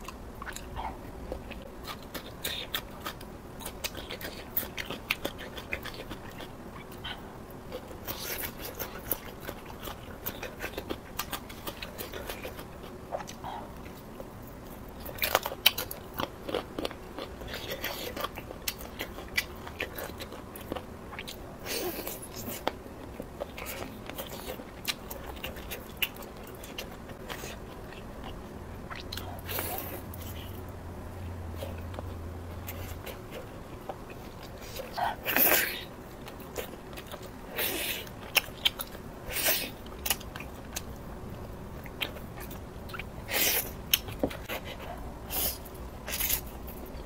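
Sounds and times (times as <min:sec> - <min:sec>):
chewing and crunching: 0:00.0 - 0:47.0.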